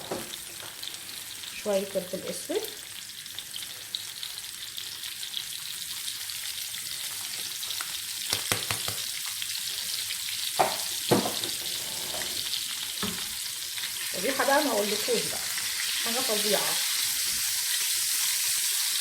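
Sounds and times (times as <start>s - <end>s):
eggs sizzling in a frying pan: 0.0s - 19.0s.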